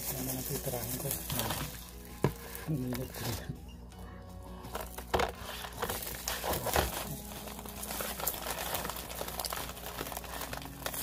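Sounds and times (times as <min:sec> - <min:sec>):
plastic bag crinkling: 0:00.0 - 0:03.5, 0:04.5 - 0:11.0.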